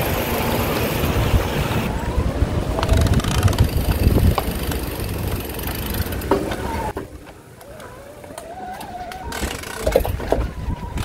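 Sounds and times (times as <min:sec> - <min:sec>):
wind rumbling on microphone: 0:00.0 - 0:07.3, 0:07.9 - 0:11.0
street noise: 0:00.0 - 0:11.0.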